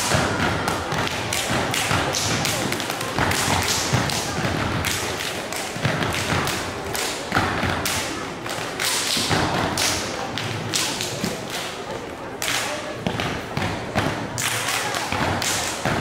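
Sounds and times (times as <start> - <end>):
stomps slaps and claps: 0.0 - 11.7, 12.4 - 16.0.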